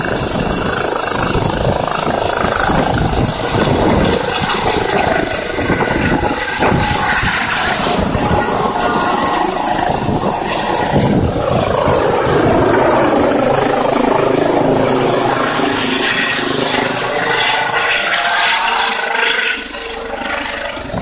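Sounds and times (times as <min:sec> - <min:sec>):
helicopter rotor thumping: 0:00.0 - 0:21.0
helicopter turbine whine: 0:00.0 - 0:21.0.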